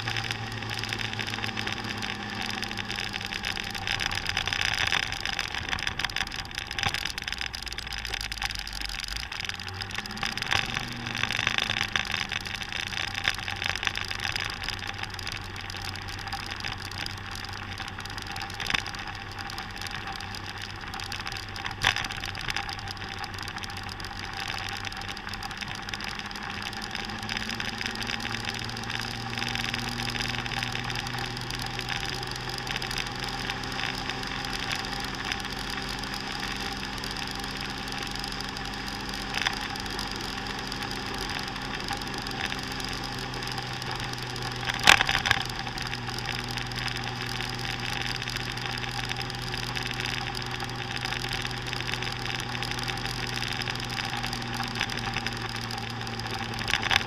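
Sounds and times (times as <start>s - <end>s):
motor scooter engine running: 0.0s - 57.0s.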